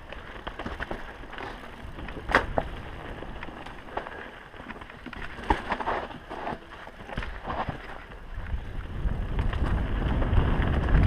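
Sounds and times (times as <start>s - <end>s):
bike rattling over rocks: 0.0s - 11.0s
bike tyres rumbling on trail: 0.0s - 11.0s.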